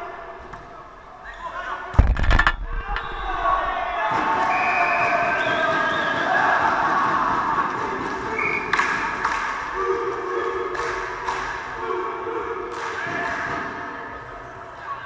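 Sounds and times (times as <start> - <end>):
players shouting and cheering: 0.0 - 15.0.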